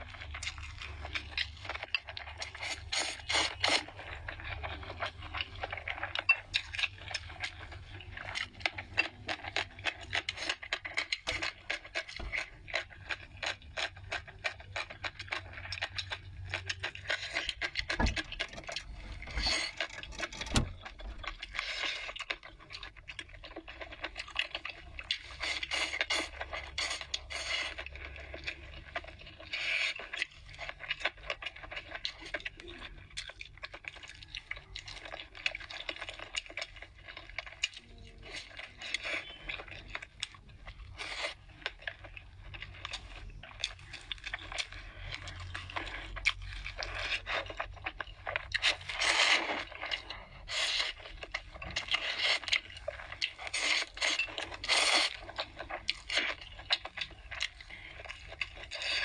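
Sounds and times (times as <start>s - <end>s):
wet chewing and slurping noodles: 0.0s - 59.0s.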